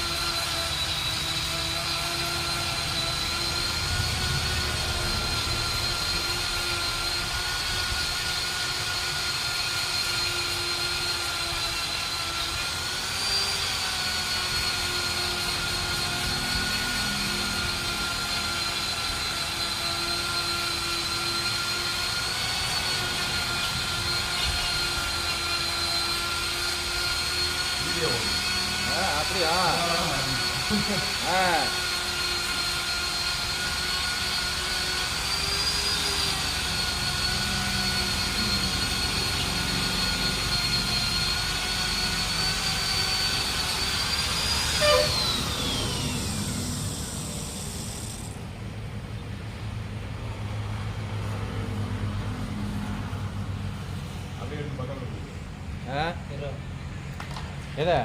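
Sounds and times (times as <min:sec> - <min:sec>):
motor whining: 0:00.0 - 0:48.6.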